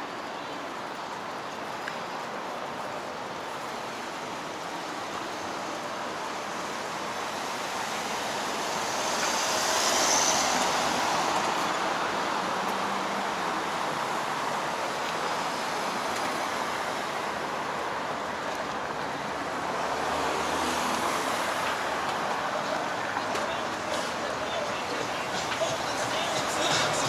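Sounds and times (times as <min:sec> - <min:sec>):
passing cars: 0:00.0 - 0:27.0.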